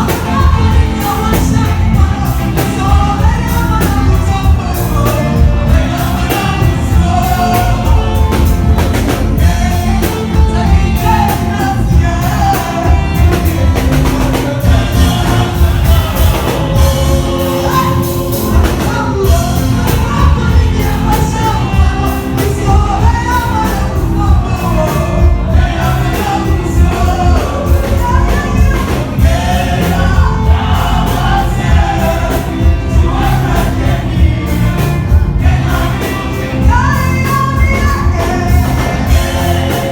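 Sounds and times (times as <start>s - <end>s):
band music with steady beat: 0.0s - 39.9s
congregation singing: 0.0s - 39.9s.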